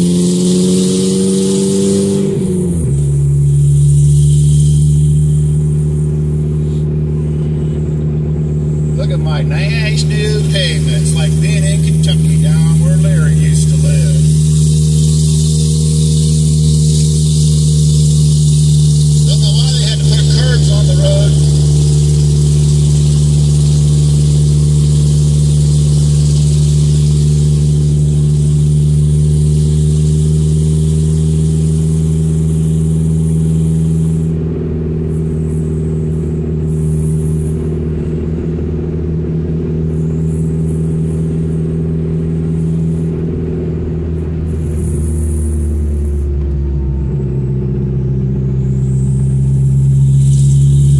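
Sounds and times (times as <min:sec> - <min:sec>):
car engine and exhaust droning: 0:00.0 - 0:50.9.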